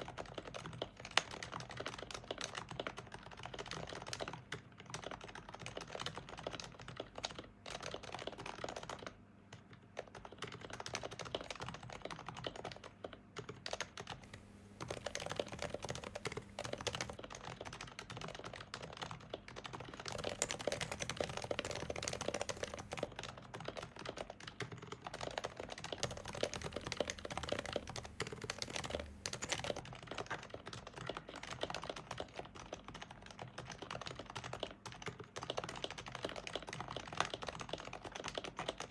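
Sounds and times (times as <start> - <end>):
soft muted keyboard typing: 0.0 - 38.9.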